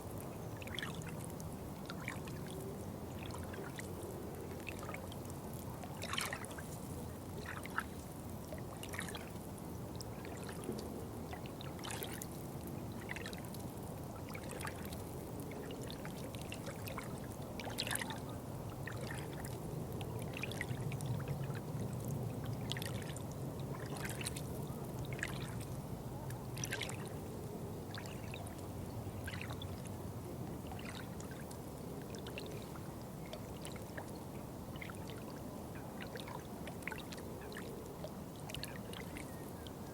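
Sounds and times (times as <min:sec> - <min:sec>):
water trickling and rushing: 0:00.0 - 0:39.9.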